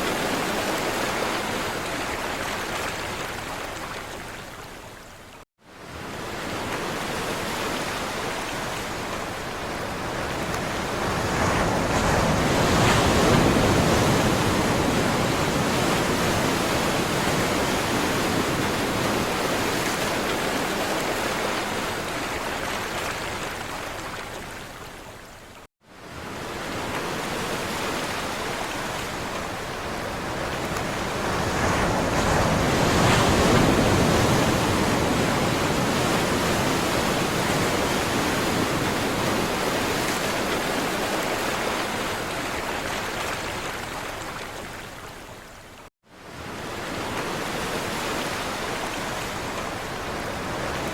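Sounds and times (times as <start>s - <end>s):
sea waves washing onto shore: 5.8s - 24.6s, 26.0s - 45.2s, 46.2s - 50.9s.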